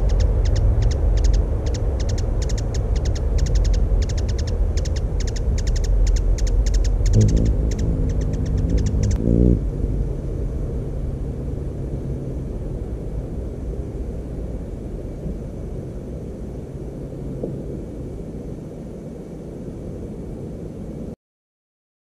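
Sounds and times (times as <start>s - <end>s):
distant engine rumble: 0.0s - 18.7s
faint low hum: 0.0s - 21.2s.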